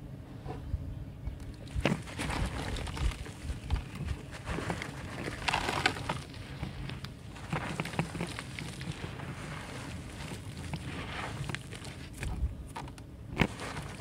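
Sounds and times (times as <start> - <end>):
dirt crushed by hand crunching: 1.4 - 14.0.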